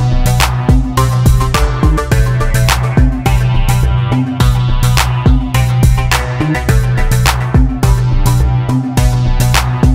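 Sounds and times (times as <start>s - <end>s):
electronic drum beat: 0.0s - 9.9s
heavy bass: 0.0s - 9.9s.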